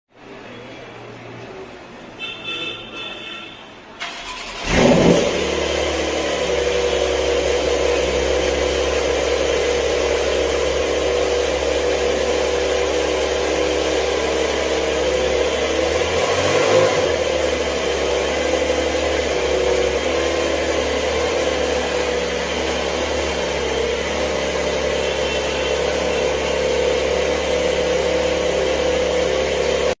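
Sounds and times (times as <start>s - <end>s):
car engine starting and idling: 3.8s - 30.0s.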